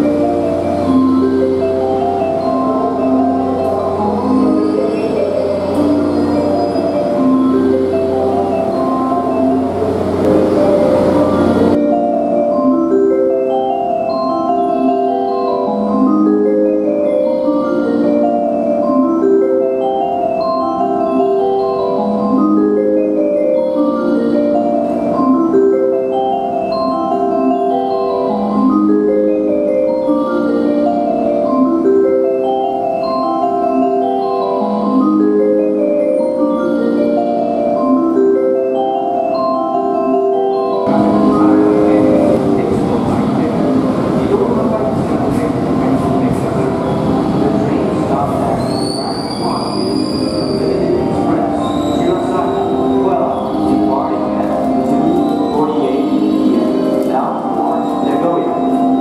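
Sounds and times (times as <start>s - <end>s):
platform chime melody: 0.0s - 59.0s
train arriving: 0.0s - 59.0s.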